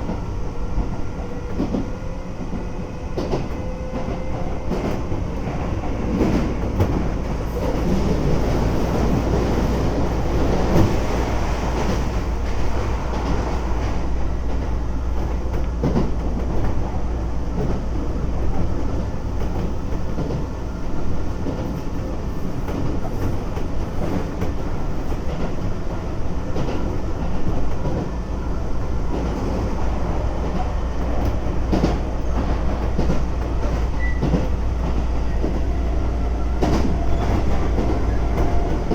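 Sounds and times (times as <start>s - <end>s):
train wheels rumbling: 0.0s - 38.9s.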